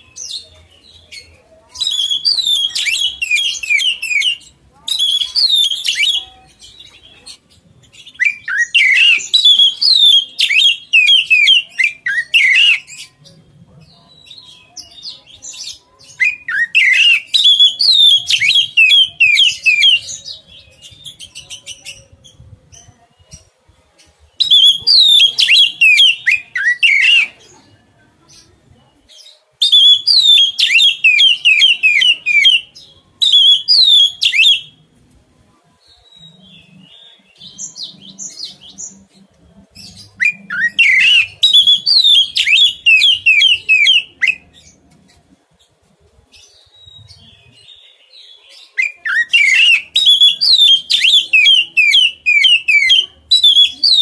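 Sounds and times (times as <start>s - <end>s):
songbird singing: 0.0s - 34.8s, 35.8s - 45.3s, 46.4s - 54.0s.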